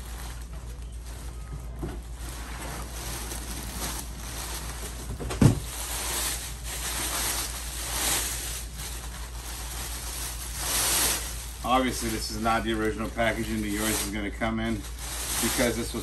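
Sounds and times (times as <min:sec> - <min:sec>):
plastic bag rustling: 0:00.0 - 0:16.0.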